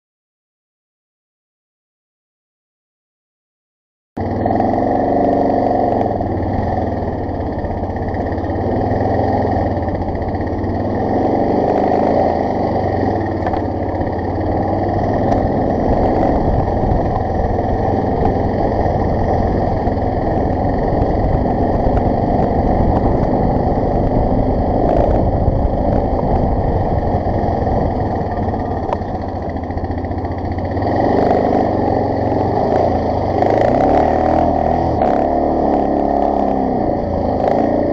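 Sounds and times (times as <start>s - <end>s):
motorcycle engine running: 4.2s - 37.9s.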